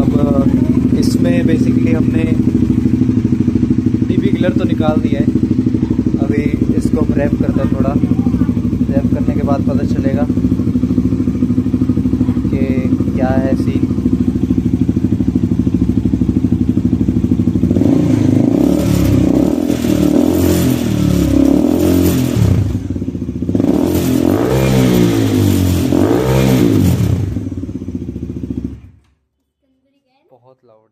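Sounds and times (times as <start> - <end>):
motorcycle engine revving: 0.0 - 29.1
motorcycle engine idling: 0.0 - 29.2.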